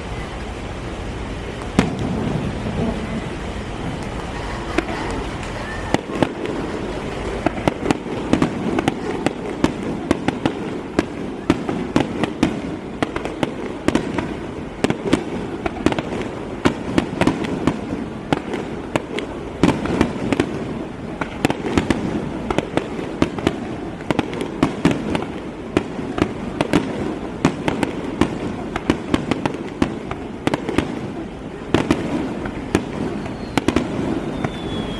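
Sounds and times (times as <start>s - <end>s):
continuous low rumble: 0.0s - 34.9s
fireworks bangs and crackles: 0.0s - 34.9s.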